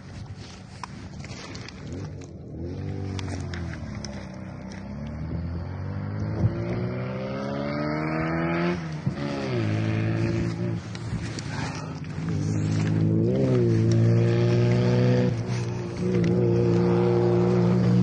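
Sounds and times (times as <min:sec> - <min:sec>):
vehicle engine revving: 0:01.2 - 0:18.0.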